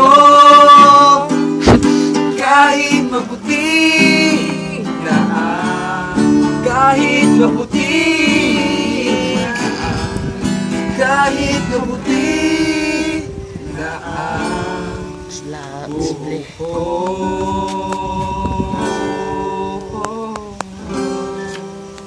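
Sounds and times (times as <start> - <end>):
young man singing: 0.0 - 21.2
acoustic guitar strumming: 0.0 - 22.0.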